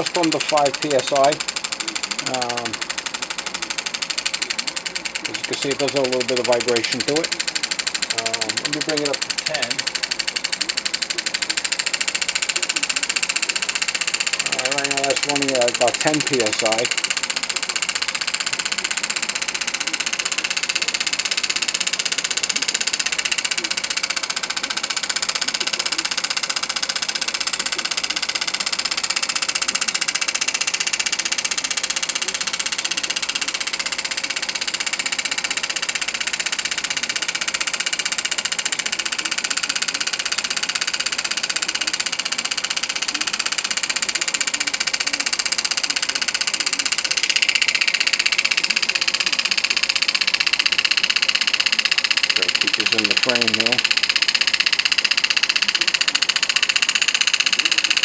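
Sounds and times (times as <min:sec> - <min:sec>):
model steam engine hissing rhythm: 0:00.0 - 0:58.0.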